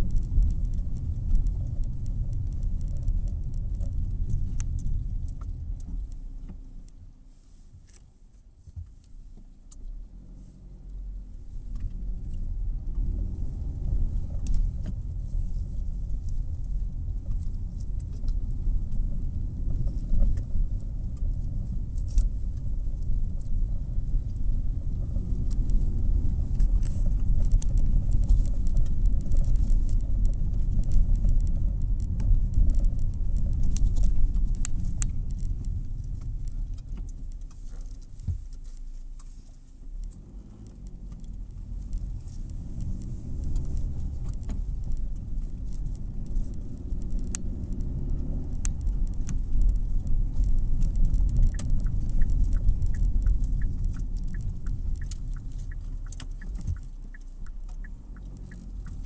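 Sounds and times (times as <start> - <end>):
light clicks and rattles: 0.0 - 7.1, 10.8 - 59.0
car engine and tyres rumbling: 0.0 - 59.0.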